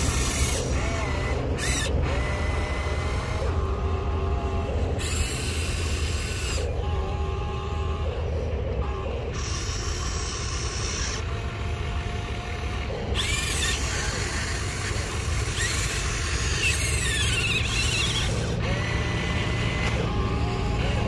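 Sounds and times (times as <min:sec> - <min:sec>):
electric motors whining: 0:00.0 - 0:21.0.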